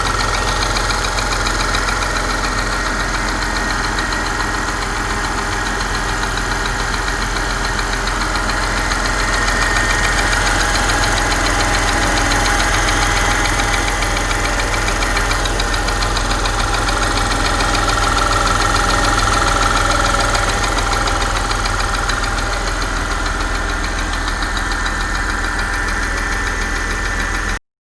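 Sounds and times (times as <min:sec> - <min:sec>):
car engine idling: 0:00.0 - 0:27.6.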